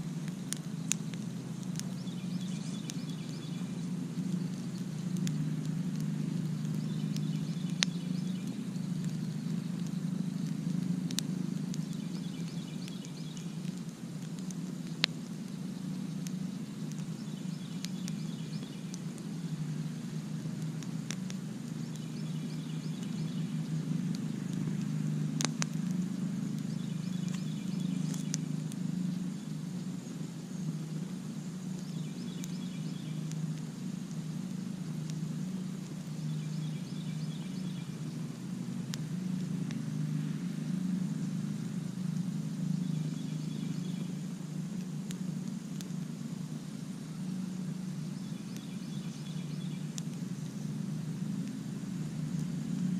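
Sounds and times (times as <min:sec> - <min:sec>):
campfire crackling and popping: 0:00.0 - 0:52.9
fire low rumble: 0:00.0 - 0:52.9.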